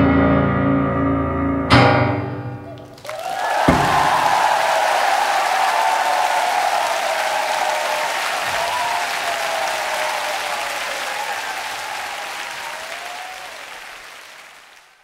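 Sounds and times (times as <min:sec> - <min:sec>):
audience applauding and cheering: 0:02.6 - 0:15.0.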